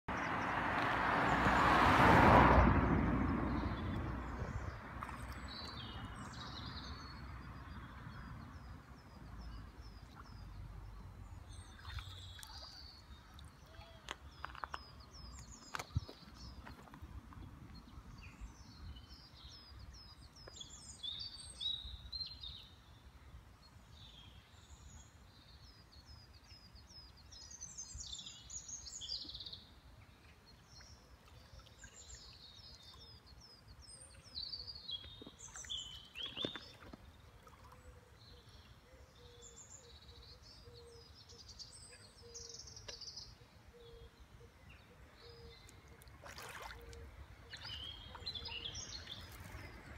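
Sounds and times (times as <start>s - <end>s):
small songbirds singing: 3.3s - 49.9s.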